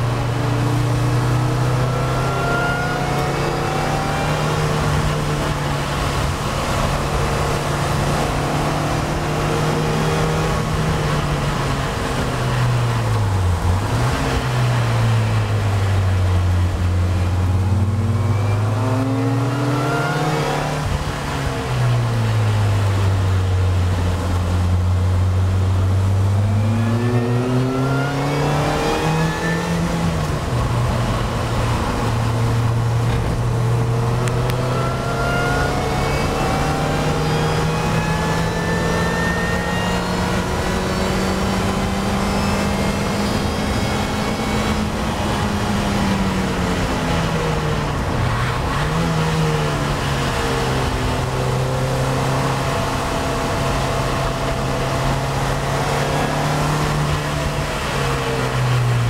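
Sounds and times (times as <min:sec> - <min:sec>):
car engine driven hard: 0:00.0 - 0:59.0.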